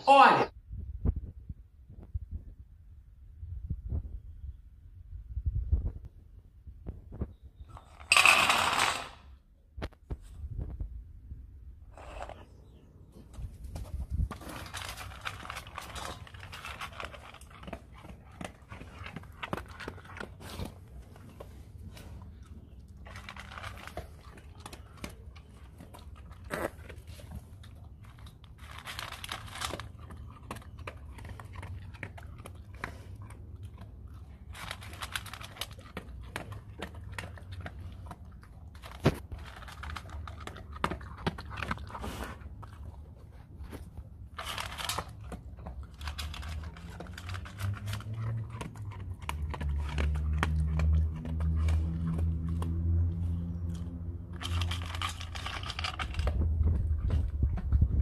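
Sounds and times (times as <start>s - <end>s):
dog crunching dry kibble: 7.1s - 10.8s, 11.9s - 58.0s.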